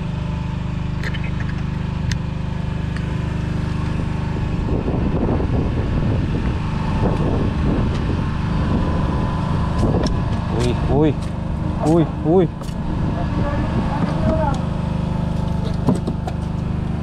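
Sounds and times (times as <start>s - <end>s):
generator humming: 0.0s - 17.0s
rough rumbling noise: 2.8s - 17.0s.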